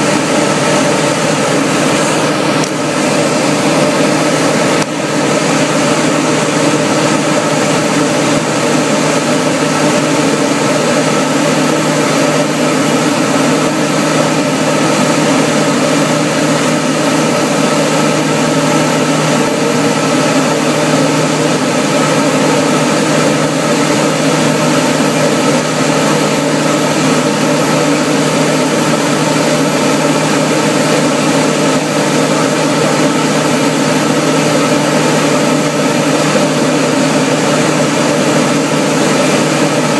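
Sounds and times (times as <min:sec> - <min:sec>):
propeller airplane engine: 0:00.0 - 0:39.9.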